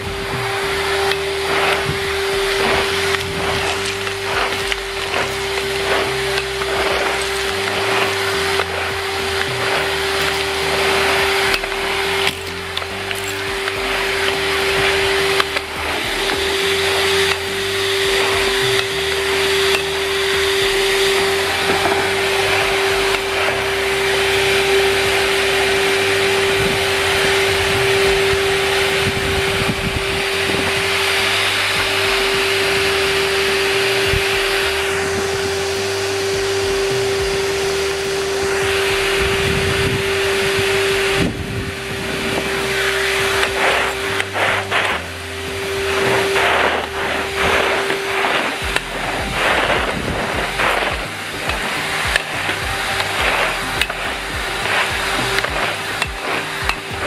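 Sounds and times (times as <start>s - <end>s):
brush pushed over concrete: 0.0s - 57.0s
vacuum cleaner running: 0.0s - 57.0s.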